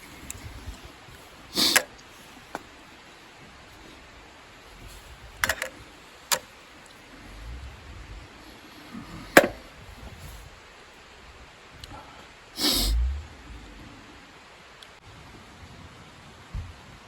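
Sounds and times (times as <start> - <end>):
faint low rumble: 2.0 - 17.0.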